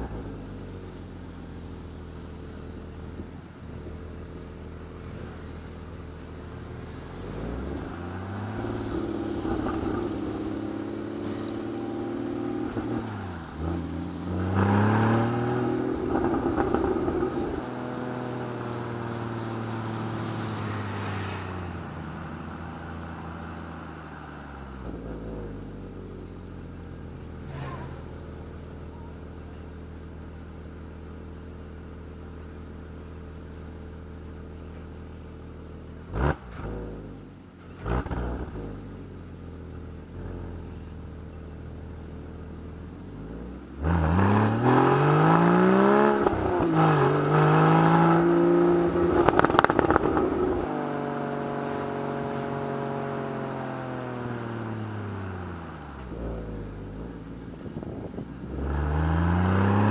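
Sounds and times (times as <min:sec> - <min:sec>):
car engine revving: 0:00.0 - 0:30.6, 0:35.7 - 0:59.9.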